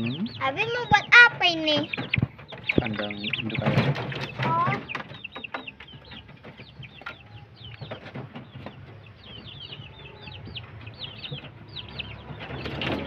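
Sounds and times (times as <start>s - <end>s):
chickens peeping: 0.0s - 13.0s.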